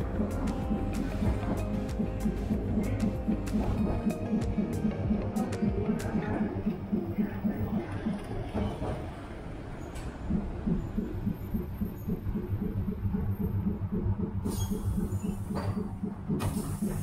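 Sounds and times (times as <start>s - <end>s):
tram motor humming and pulsing: 0.0s - 17.0s.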